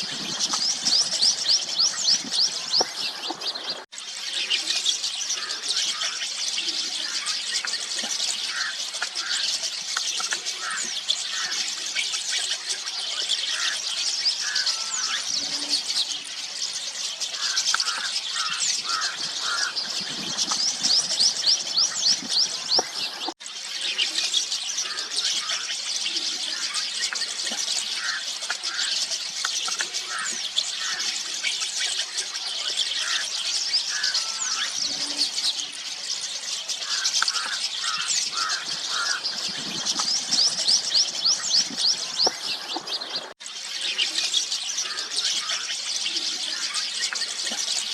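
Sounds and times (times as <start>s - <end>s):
flock of starlings chattering: 0.0s - 47.9s.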